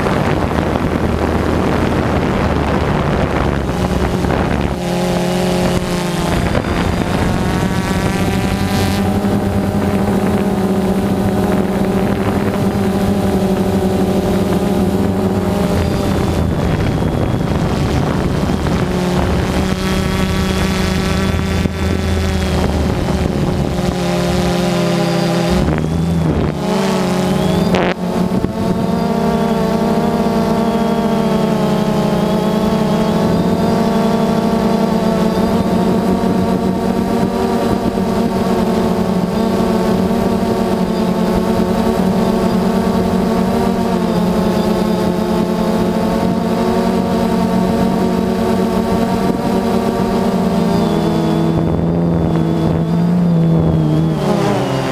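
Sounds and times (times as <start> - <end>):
drone propellers buzzing: 0.0 - 54.9.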